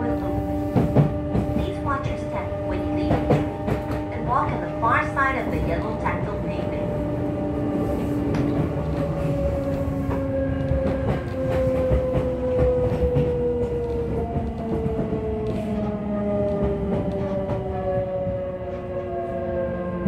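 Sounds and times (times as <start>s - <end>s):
wheel and rail rumble: 0.0s - 20.0s
clacks at rail joints: 0.2s - 6.9s, 8.2s - 19.2s.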